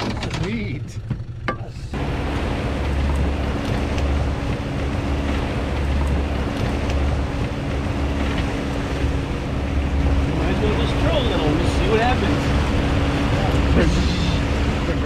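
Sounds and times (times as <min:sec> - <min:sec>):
outboard motor humming: 0:00.0 - 0:15.0
wake washing: 0:01.9 - 0:15.0.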